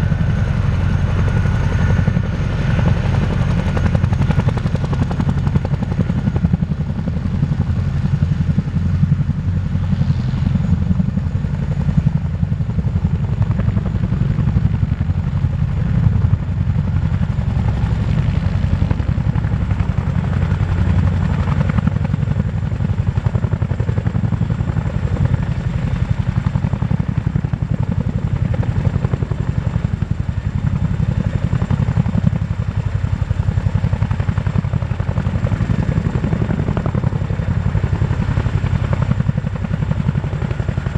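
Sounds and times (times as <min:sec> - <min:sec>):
helicopter rotor chop: 0:00.0 - 0:40.9.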